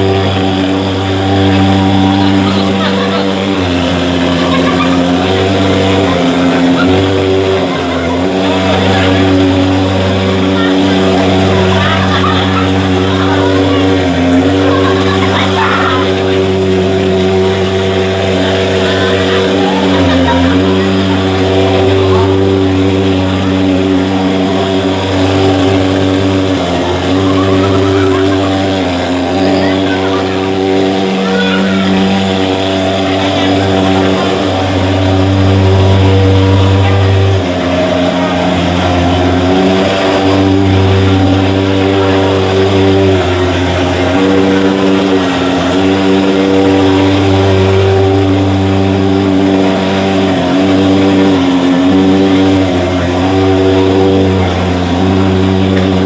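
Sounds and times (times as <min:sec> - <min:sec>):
pulse-jet fogging machine drone: 0:00.0 - 0:56.0.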